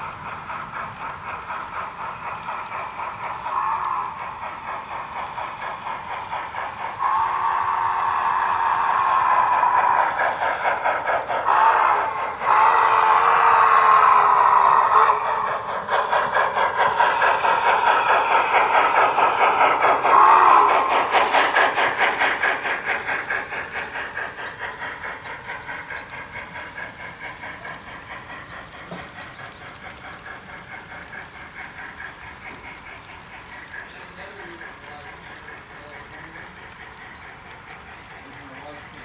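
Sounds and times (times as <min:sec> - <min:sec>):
model steam locomotive chuffing: 0:00.0 - 0:39.0.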